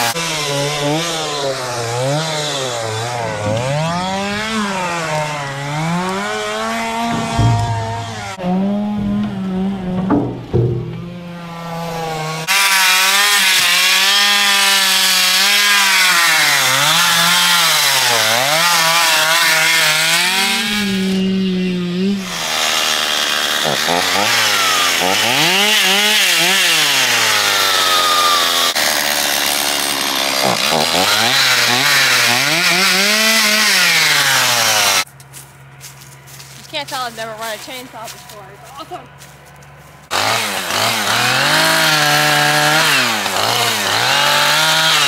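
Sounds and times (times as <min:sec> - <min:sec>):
chainsaw revving: 0:00.0 - 0:35.1, 0:40.1 - 0:45.0.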